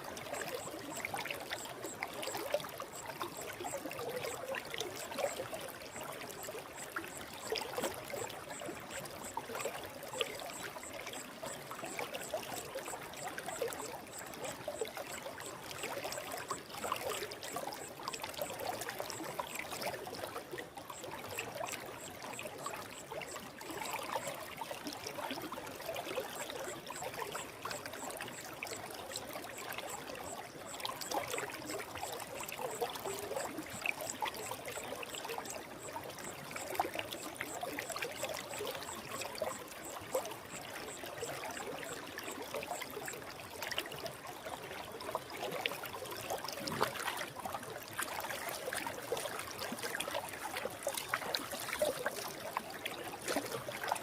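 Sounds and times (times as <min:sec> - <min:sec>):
stream trickling and bubbling: 0:00.0 - 0:54.0.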